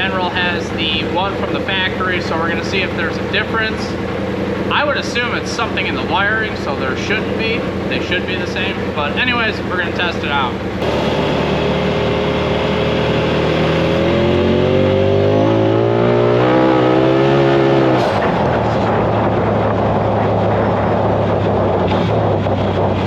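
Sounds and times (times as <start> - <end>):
off-road vehicle engine accelerating: 0.0 - 23.0.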